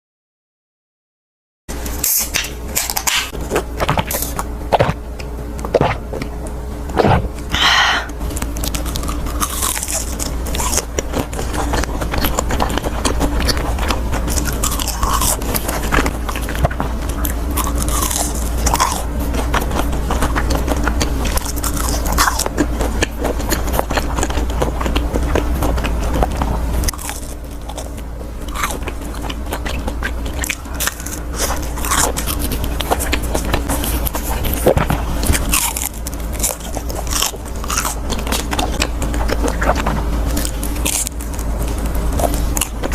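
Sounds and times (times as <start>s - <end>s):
chewing crunchy fried food: 1.7s - 42.9s
steady low hum: 1.7s - 42.9s.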